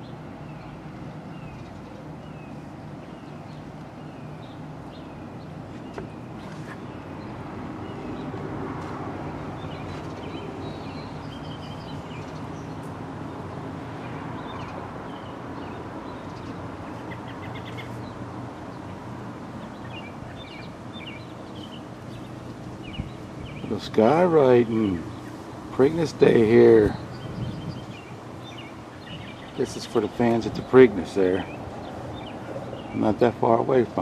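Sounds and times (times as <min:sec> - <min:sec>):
distant propeller plane drone: 0:00.0 - 0:34.0
small birds chirping: 0:00.0 - 0:34.0.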